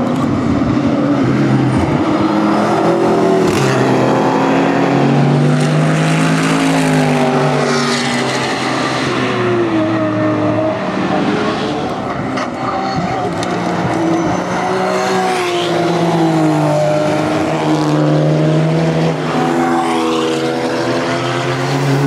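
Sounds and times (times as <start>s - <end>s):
race cars driving past: 0.0s - 22.0s.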